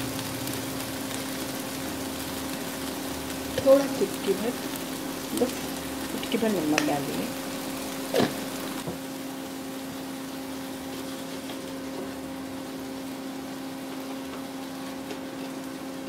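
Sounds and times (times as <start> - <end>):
steady low hum: 0.0 - 16.0
vegetables sizzling in a frying pan: 0.0 - 16.0.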